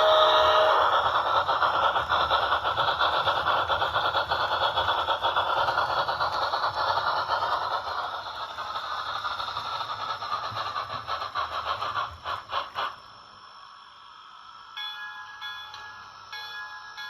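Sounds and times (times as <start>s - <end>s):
steam locomotive chuffing from speaker: 0.0s - 14.7s.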